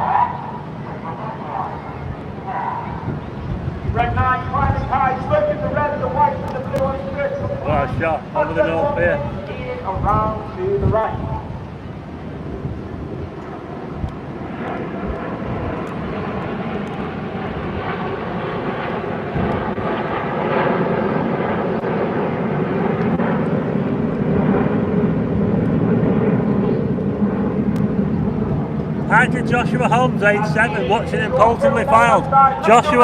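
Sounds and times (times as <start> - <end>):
jets flying past: 0.0 - 33.0.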